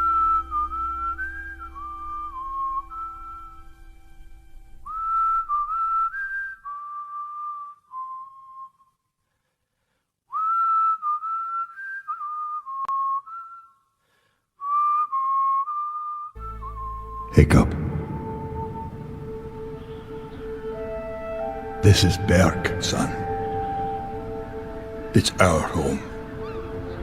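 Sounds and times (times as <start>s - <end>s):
person whistling slow melody: 0.0s - 3.7s, 4.8s - 9.0s, 10.3s - 14.0s, 14.6s - 25.2s.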